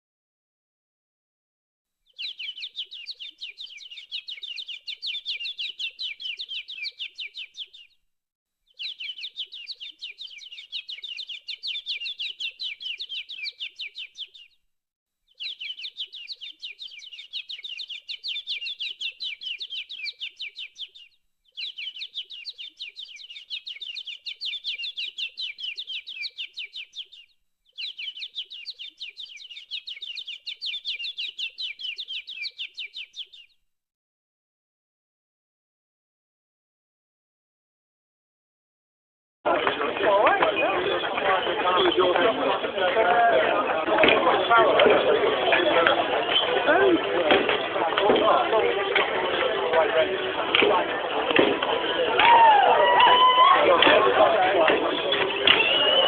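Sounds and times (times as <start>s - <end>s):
birds chirping rapidly: 2.0s - 8.0s, 8.7s - 14.6s, 15.3s - 33.6s, 39.5s - 56.0s.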